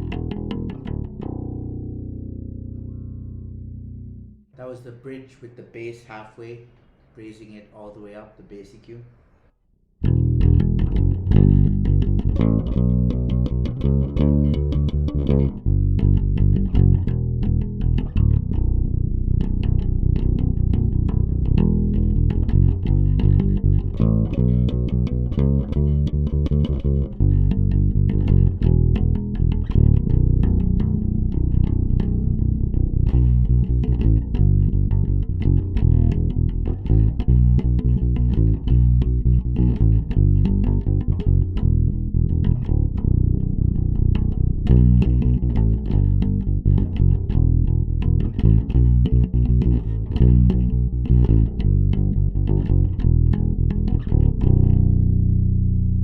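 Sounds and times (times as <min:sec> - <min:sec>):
bass guitar riff: 0:00.0 - 0:04.7, 0:10.0 - 0:56.0.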